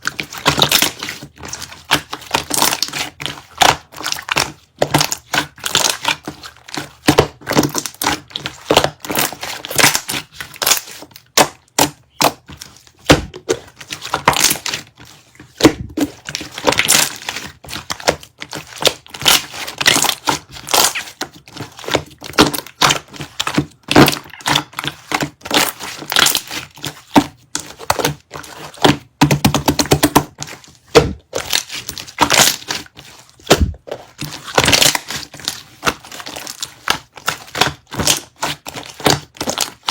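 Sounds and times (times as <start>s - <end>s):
slime squished by hand: 0.1s - 29.1s, 29.9s - 39.9s.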